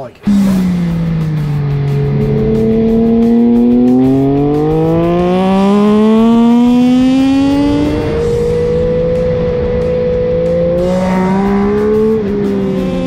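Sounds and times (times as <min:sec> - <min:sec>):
racing engine revving: 0:00.2 - 0:13.0.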